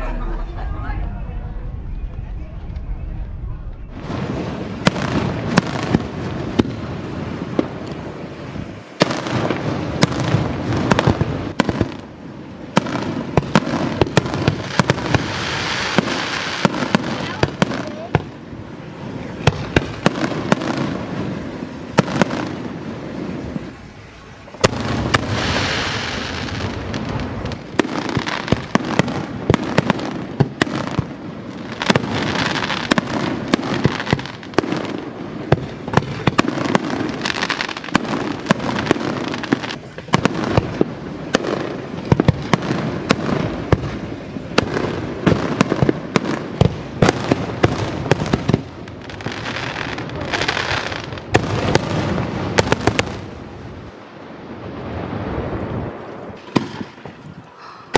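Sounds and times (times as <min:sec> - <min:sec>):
fireworks crackling: 0:00.0 - 0:57.9.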